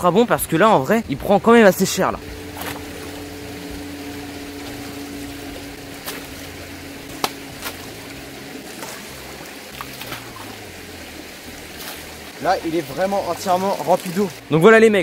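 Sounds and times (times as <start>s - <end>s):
knocks and light splashes: 0.0s - 14.5s
river water running: 0.0s - 15.0s.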